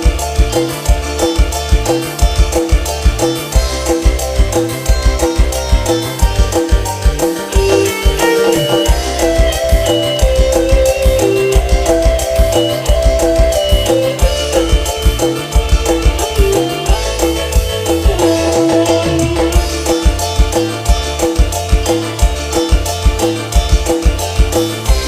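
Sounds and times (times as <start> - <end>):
music with drum beat: 0.0 - 25.0.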